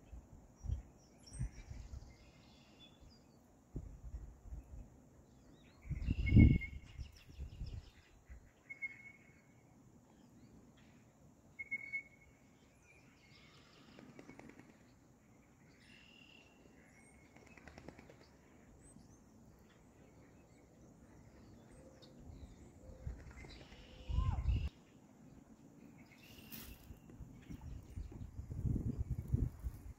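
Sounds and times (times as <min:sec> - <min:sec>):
faint outdoor background: 0:00.0 - 0:29.9.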